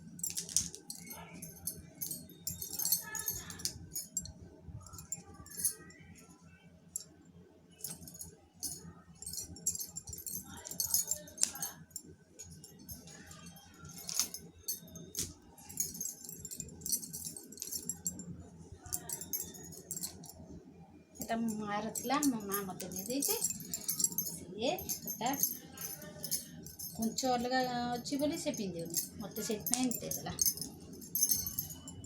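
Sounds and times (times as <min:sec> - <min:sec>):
small hard objects jingling: 0:00.0 - 0:04.3, 0:07.8 - 0:20.3, 0:21.2 - 0:32.0
faint steady hum: 0:00.0 - 0:32.0.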